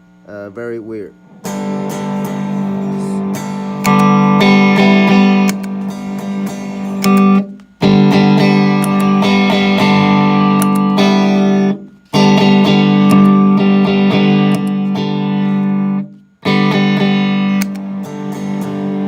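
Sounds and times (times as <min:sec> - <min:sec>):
distorted electric guitar chords: 0:01.1 - 0:19.0.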